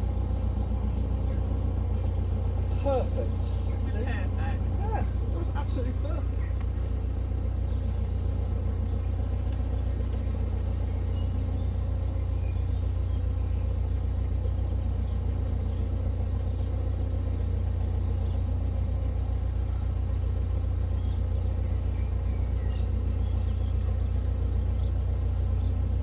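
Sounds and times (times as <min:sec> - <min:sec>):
faint bird chirps: 0:00.0 - 0:04.4, 0:07.0 - 0:26.0
boat engine droning: 0:00.0 - 0:26.0.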